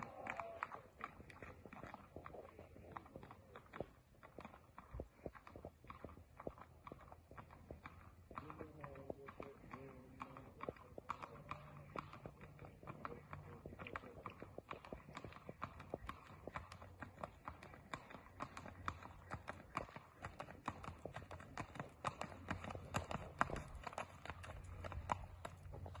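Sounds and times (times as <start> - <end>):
horse hooves on asphalt: 0.0 - 26.0.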